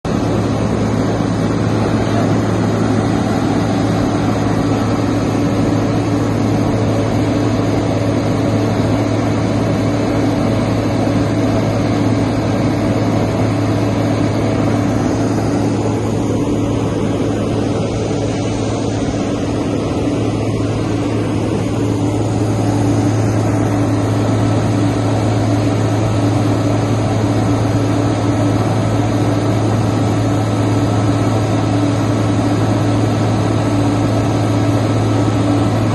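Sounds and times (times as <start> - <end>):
large engine droning: 0.0 - 35.9.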